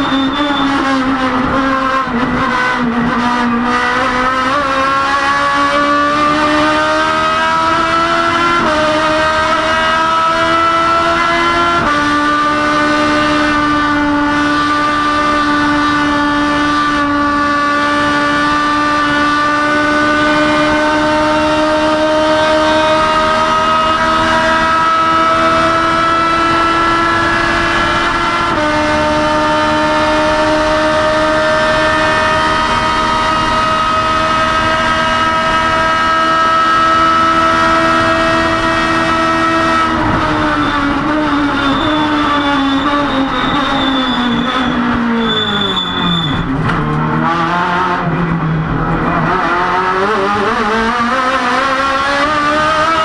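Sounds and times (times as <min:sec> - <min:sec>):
racing car engine at high revs: 0:00.0 - 0:53.0.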